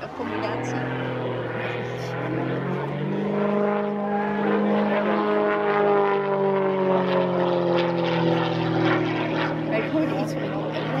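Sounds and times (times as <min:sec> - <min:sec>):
propeller plane engine overhead: 0:00.0 - 0:11.0.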